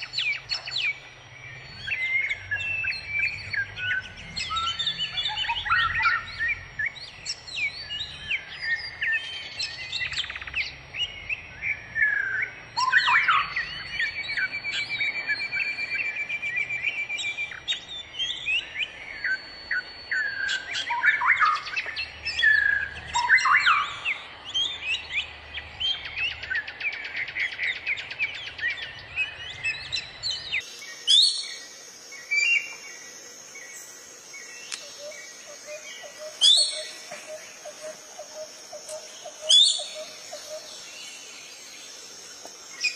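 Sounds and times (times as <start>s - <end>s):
birds singing and calling: 0.0s - 42.9s.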